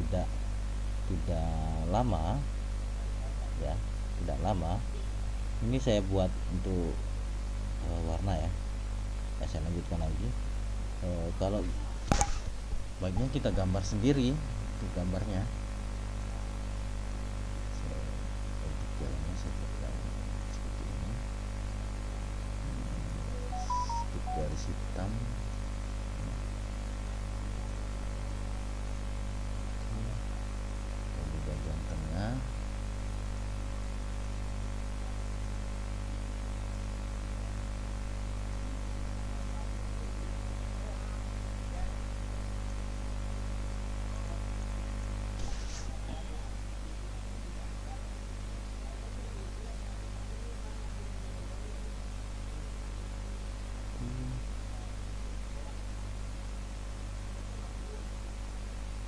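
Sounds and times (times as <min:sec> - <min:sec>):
electrical mains hum: 0:00.0 - 0:59.0
faint static hiss: 0:00.0 - 0:59.0.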